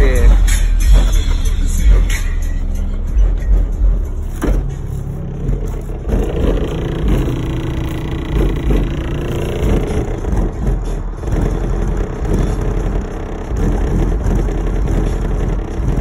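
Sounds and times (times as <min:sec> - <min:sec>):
deep pulsing bass music: 0:00.0 - 0:16.0.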